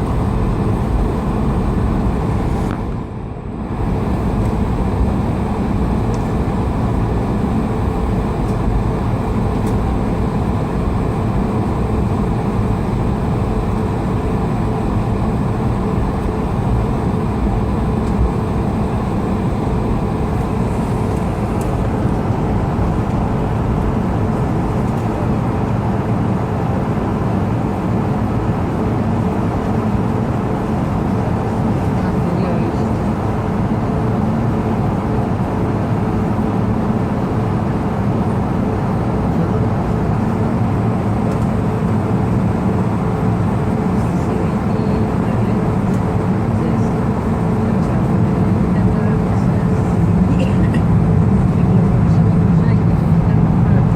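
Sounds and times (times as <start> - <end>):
airplane cabin engine roar: 0.0 - 53.9.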